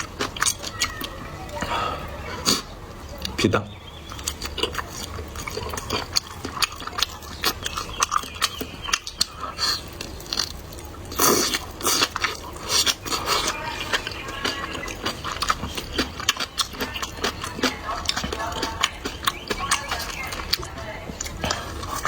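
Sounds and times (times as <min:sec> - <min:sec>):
chewing with wet mouth clicks: 0:00.0 - 0:01.7, 0:02.4 - 0:22.0.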